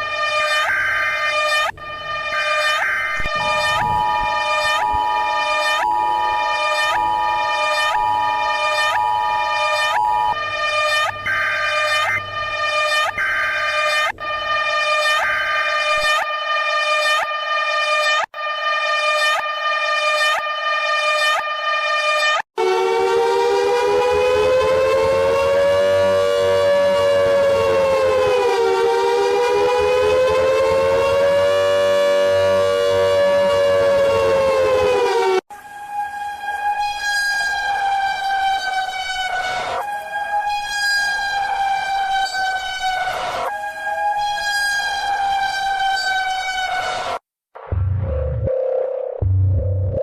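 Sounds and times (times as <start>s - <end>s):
high steady alarm tone: 0.0s - 46.9s
harsh wavering multi-tone siren: 0.0s - 47.8s.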